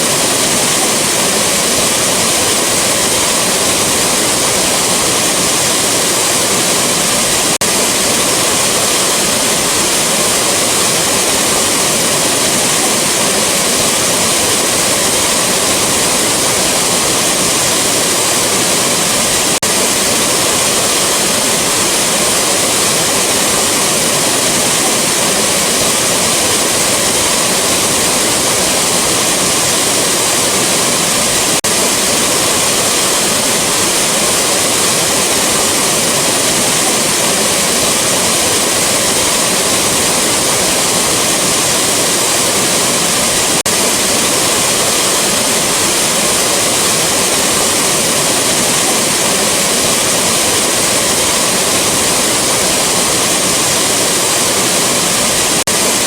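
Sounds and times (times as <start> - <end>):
rushing waterfall: 0.0 - 56.0.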